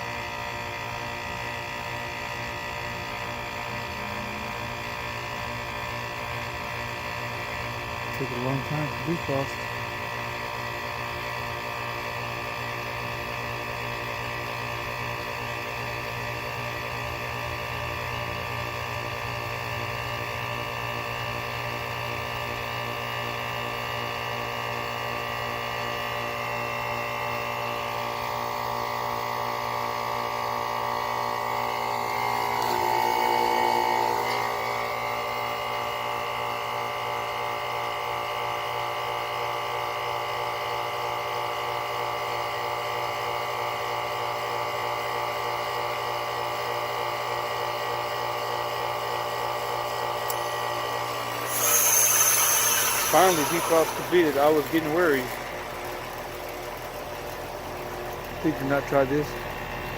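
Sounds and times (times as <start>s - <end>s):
heat pump compressor running: 0.0s - 59.9s
heat pump whine: 0.0s - 59.9s.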